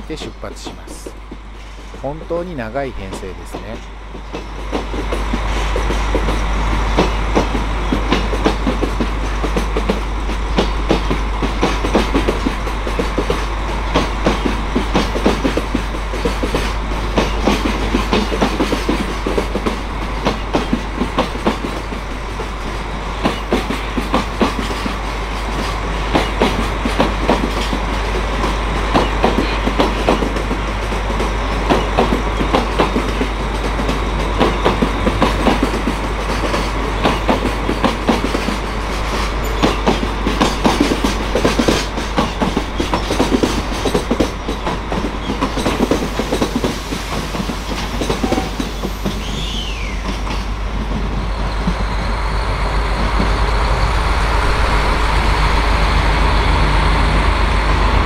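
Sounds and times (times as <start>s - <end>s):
train rolling rumble: 0.0s - 58.0s
train wheels clacking over rail joints: 0.2s - 58.0s.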